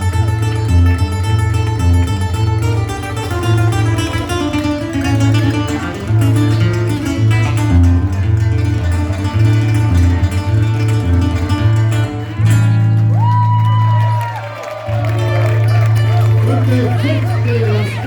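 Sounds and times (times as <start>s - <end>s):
pulsing bass line: 0.0s - 14.2s, 14.9s - 18.0s
plucked guitar melody: 0.0s - 18.0s.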